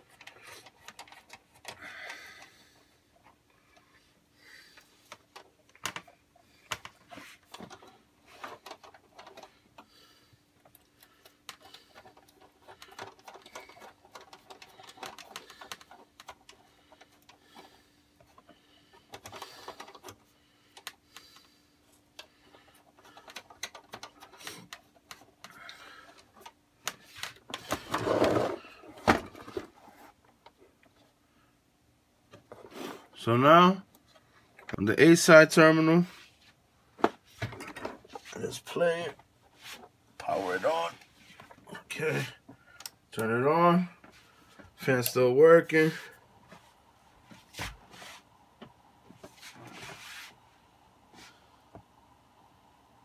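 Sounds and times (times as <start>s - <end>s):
speaker wire handling clicks and rustles: 0.0s - 31.2s, 32.2s - 50.0s
faint steady hum: 0.0s - 53.0s.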